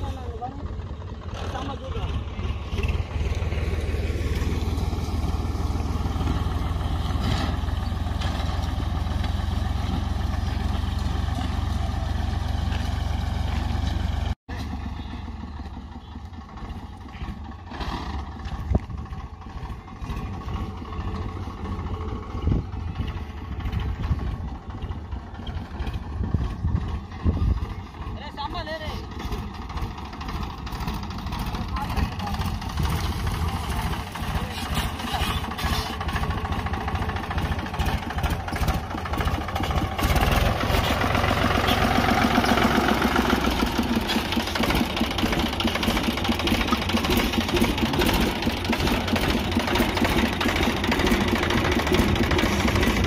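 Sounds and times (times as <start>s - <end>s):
tractor engine rumbling: 0.0s - 53.0s.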